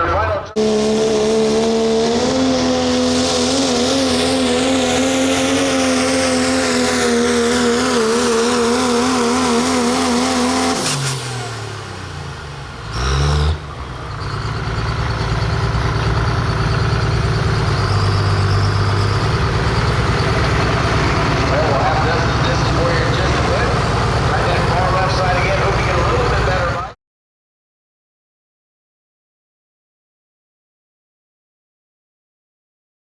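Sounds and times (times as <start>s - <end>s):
loud engine blast: 0.0s - 27.0s
truck engine at full power: 0.0s - 27.0s.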